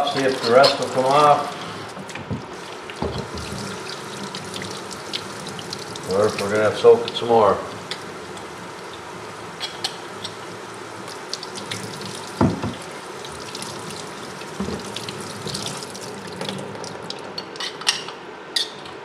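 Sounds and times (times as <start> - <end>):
tap water running into a sink: 0.0 - 17.4.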